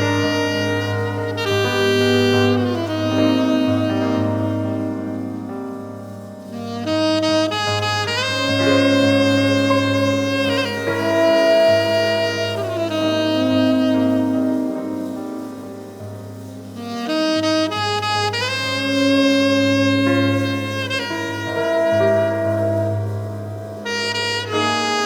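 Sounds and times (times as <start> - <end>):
saxophone melody: 0.0 - 25.0
soft band accompaniment: 0.0 - 25.0.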